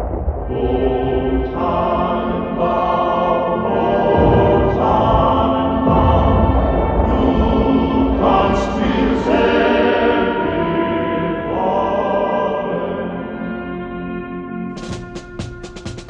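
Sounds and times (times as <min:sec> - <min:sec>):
choir singing held chords: 0:00.0 - 0:15.9.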